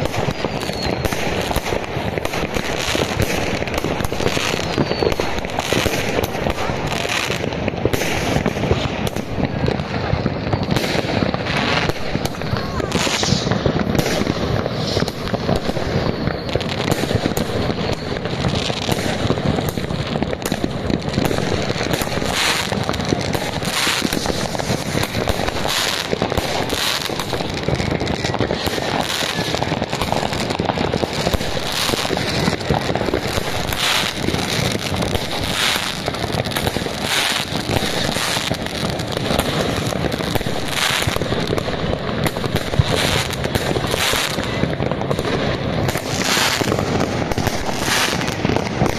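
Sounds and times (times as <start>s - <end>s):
fireworks crackling: 0.0s - 48.9s
fireworks sharp bangs: 0.0s - 48.9s.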